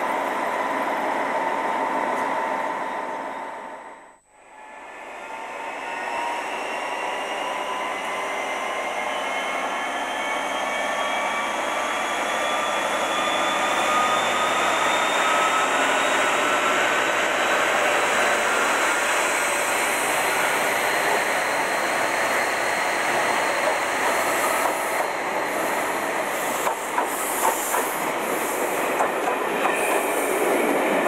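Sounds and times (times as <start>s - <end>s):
diesel locomotive engine: 0.0s - 31.0s.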